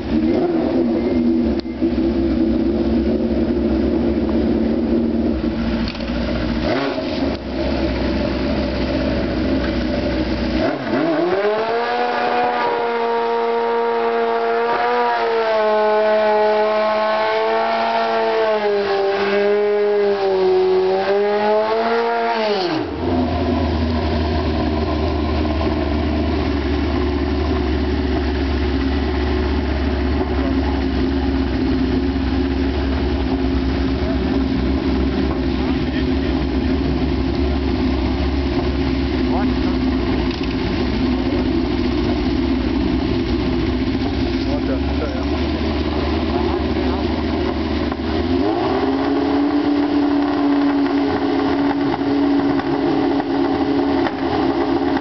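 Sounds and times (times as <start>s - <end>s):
motorcycle engine revving high: 0.0s - 55.0s
motorcycle engines running: 0.0s - 55.0s.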